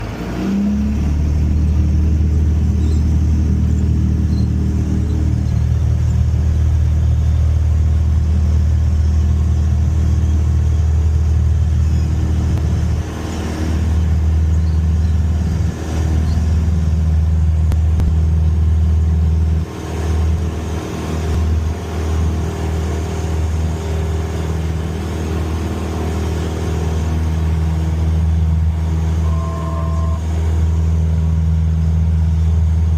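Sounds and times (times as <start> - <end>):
propeller airplane engine: 0.0 - 32.9.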